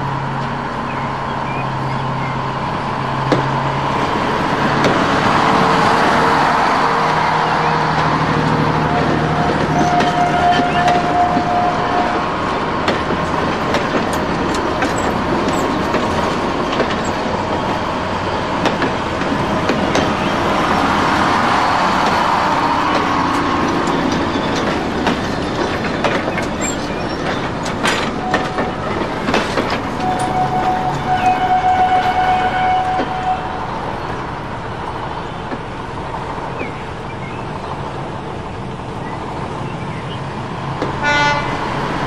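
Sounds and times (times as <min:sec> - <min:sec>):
train rumbling along track: 0:00.0 - 0:42.0
rail clicks: 0:00.2 - 0:42.0.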